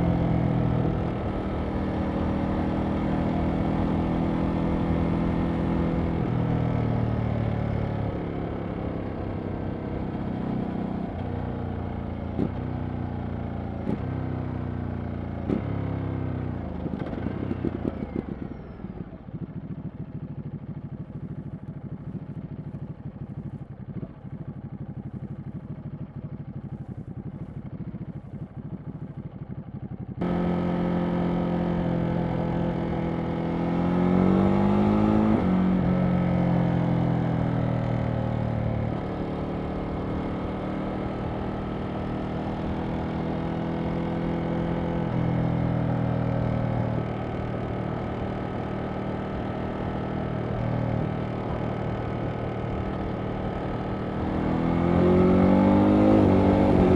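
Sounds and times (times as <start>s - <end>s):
motorcycle engine while riding: 0.0s - 56.9s.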